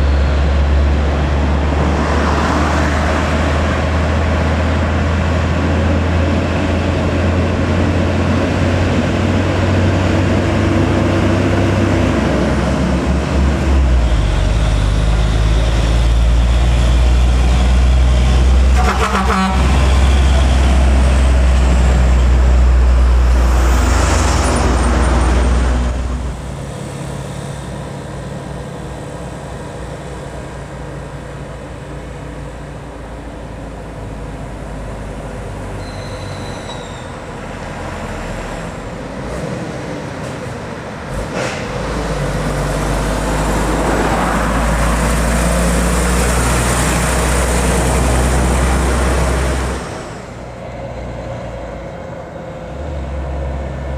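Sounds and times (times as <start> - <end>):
diesel trucks labouring uphill: 0.0 - 53.9
traffic noise: 0.0 - 53.9.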